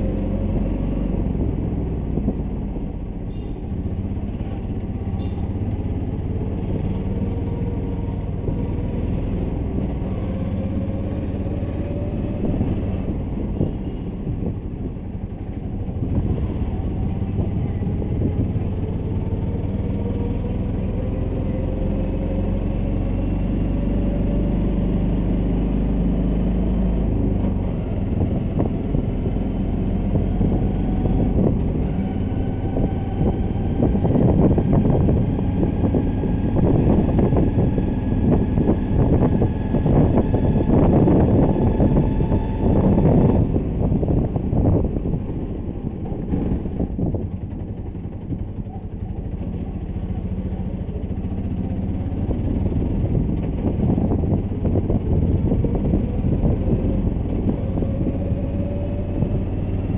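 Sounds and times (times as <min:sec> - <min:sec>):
road and wind noise: 0:00.0 - 0:59.9
vehicle engine accelerating: 0:00.0 - 0:59.9.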